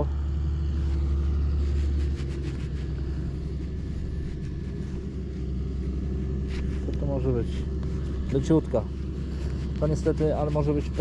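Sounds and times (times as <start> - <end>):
gloved fingers scratching soil: 0.2 - 11.0.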